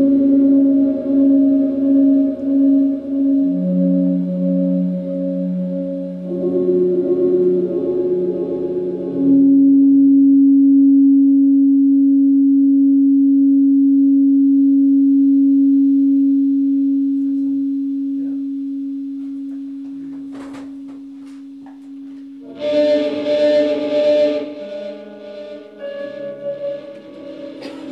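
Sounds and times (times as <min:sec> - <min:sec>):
electric guitar sustained note: 0:00.0 - 0:27.9.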